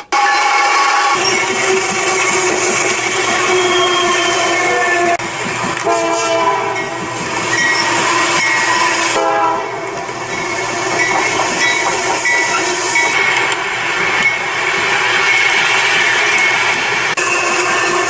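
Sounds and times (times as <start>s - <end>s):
bridge humming whining tones: 0.0s - 18.0s
traffic rushing hiss: 0.0s - 18.0s.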